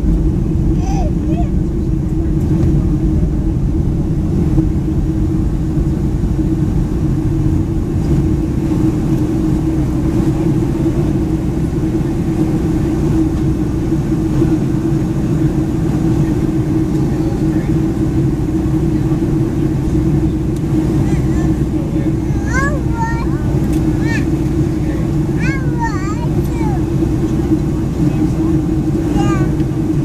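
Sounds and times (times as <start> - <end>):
airliner cabin engine rumble: 0.0 - 30.0
steady cabin hum: 0.0 - 30.0.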